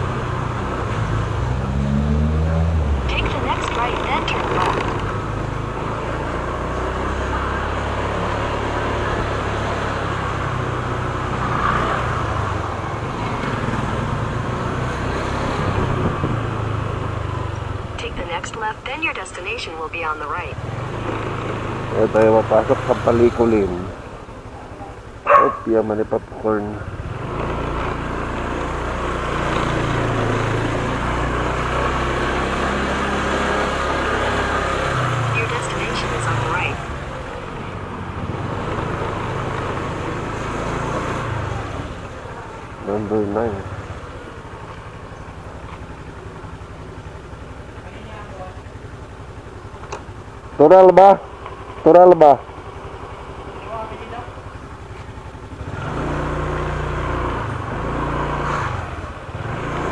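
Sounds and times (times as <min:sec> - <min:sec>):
motorcycle engine hum: 0:00.0 - 0:59.9
road and wind noise: 0:00.0 - 0:59.9.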